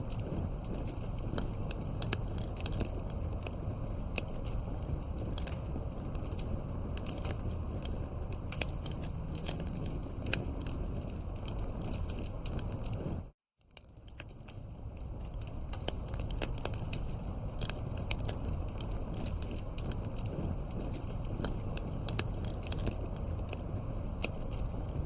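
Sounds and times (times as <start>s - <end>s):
campfire flame rumble: 0.0s - 25.0s
wood crackling and popping: 0.0s - 25.0s.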